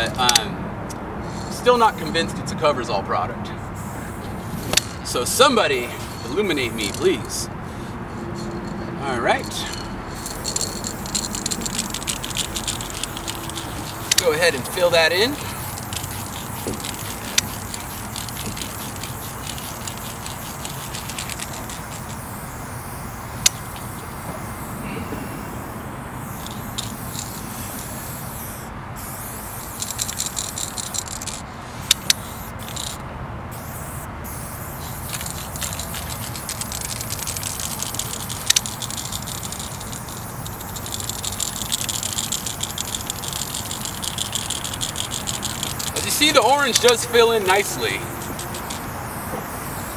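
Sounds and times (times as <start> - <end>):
spray paint can hissing: 1.2 - 2.2, 3.7 - 49.9.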